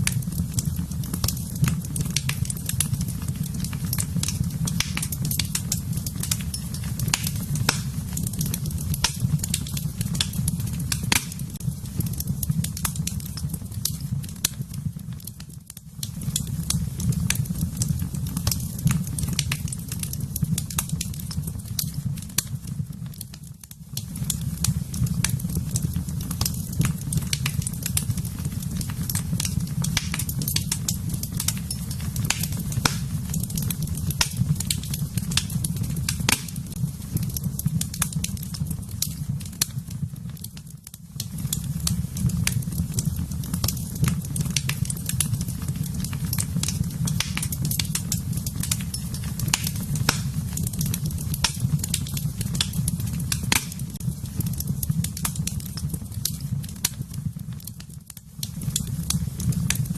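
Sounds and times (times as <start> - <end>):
fire crackling and popping: 0.0 - 59.9
low rumble of burning: 0.0 - 59.9.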